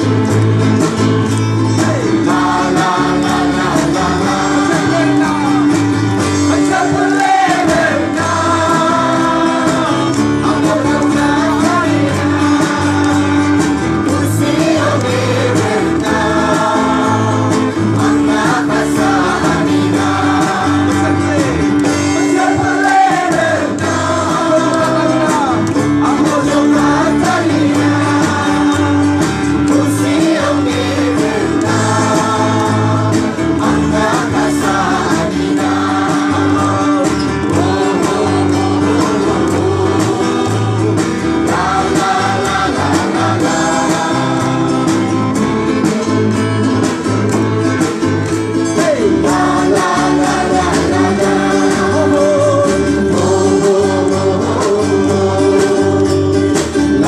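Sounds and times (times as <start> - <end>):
acoustic guitar: 0.0 - 57.0
drums: 0.0 - 57.0
group of singers: 0.0 - 57.0.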